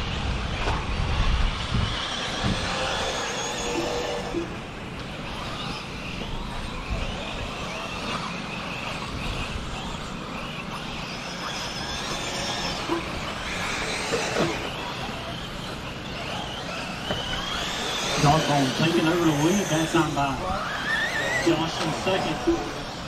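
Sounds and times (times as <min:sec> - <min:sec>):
rc car motors whining: 0:00.0 - 0:23.0.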